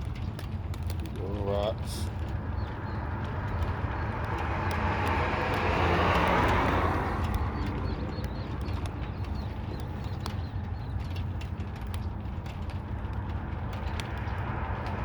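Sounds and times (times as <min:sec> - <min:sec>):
steady low rumble: 0:00.0 - 0:15.0
vehicle passing by: 0:00.4 - 0:15.0.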